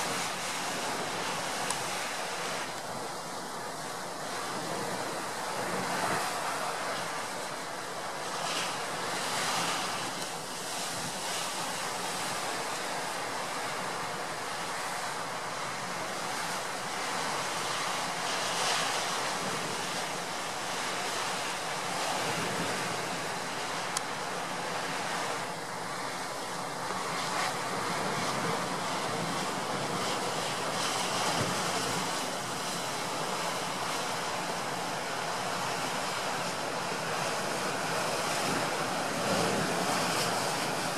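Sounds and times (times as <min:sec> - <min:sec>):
wind blowing across microphone: 0:00.0 - 0:40.9.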